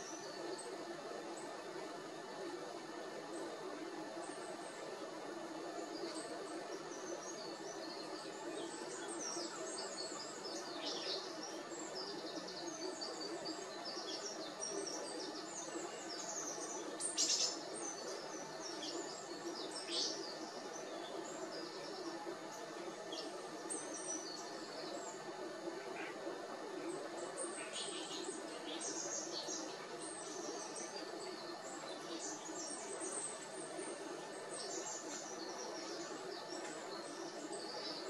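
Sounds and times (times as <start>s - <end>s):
birds twittering chirps: 0.0s - 38.0s
low background hum: 0.0s - 38.0s.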